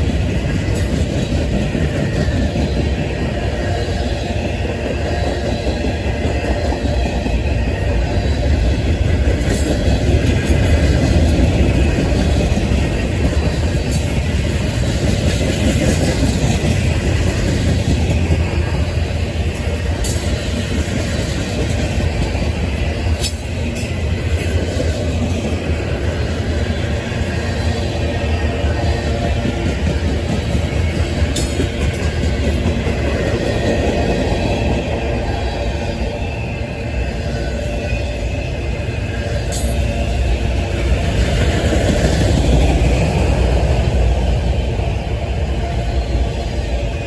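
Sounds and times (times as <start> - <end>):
freight train wheels rumbling on rail: 0.0 - 47.0
sharp clicks of train wheels: 0.0 - 47.0.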